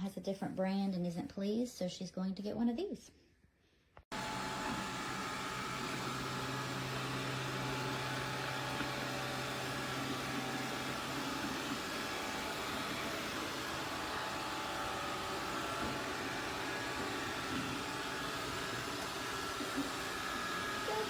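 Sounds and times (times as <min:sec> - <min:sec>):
robot vacuum running: 0:04.1 - 0:21.0.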